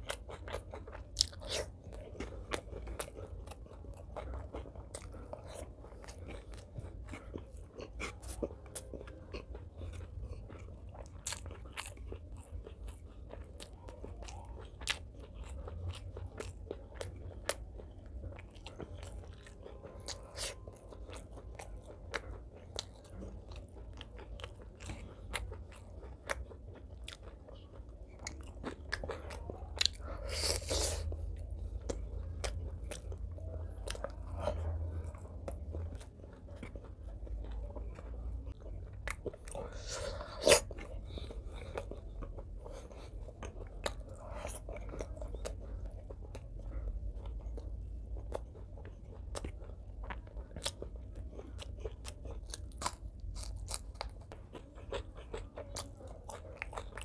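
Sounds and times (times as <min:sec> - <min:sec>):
chewing and biting food: 0:00.0 - 0:57.0.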